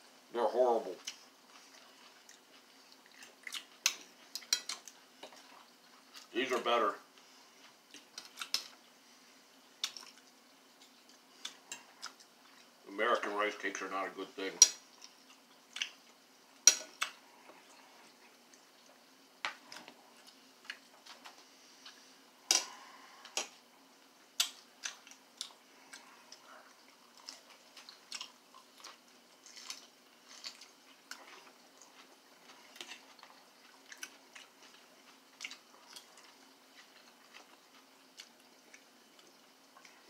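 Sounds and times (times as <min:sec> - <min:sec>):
quiet chewing: 0:00.8 - 0:12.8, 0:14.7 - 0:40.0.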